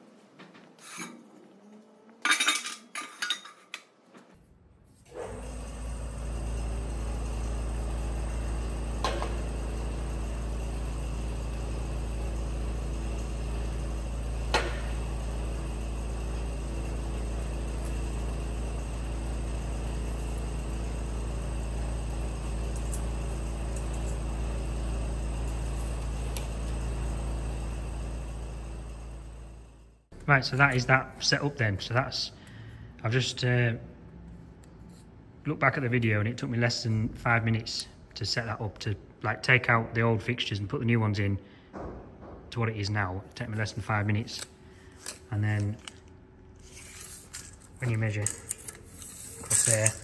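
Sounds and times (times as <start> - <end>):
low machine hum: 5.0 - 50.0.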